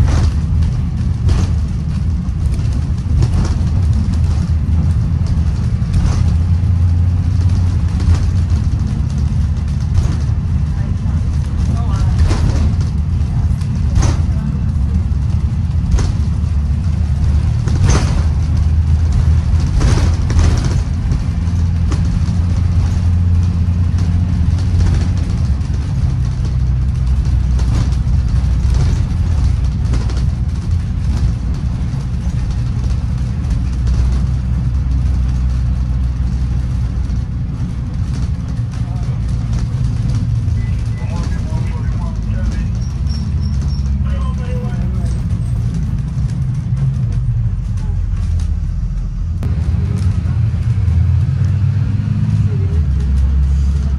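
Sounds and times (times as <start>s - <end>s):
body and seats rattling: 0.0s - 51.7s
bus engine and road drone: 0.0s - 53.9s.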